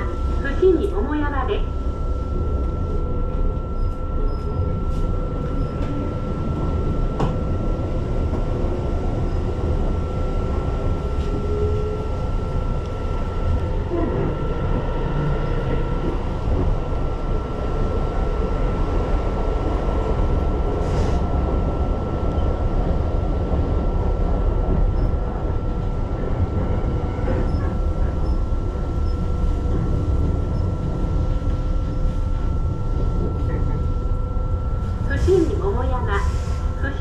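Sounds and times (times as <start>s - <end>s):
constant high hum: 0.0s - 37.0s
train rumble: 0.0s - 37.0s.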